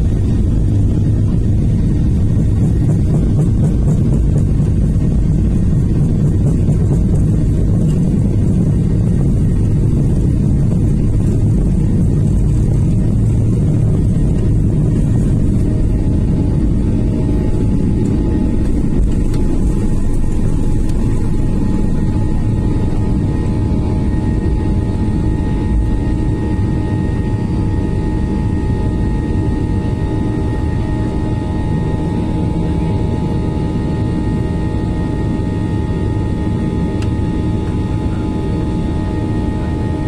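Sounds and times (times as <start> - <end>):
jet engines rumbling in cabin: 0.0 - 40.0.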